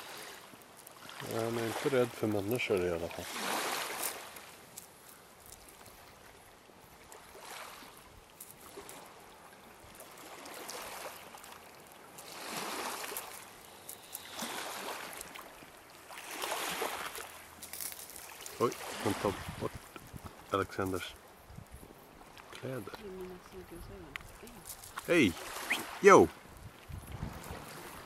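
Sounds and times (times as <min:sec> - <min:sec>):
waves washing onto stony shore: 0:00.0 - 0:28.0.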